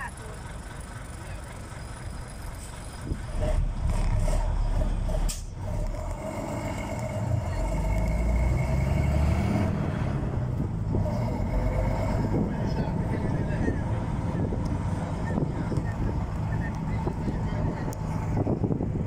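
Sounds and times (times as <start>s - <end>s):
bus engine revving: 0.0s - 19.0s.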